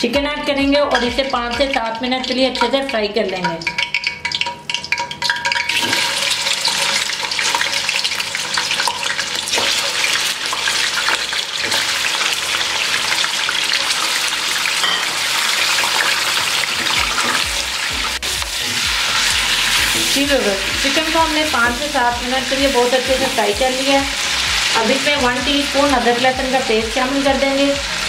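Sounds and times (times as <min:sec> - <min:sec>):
chicken sizzling in hot oil: 0:00.9 - 0:28.0.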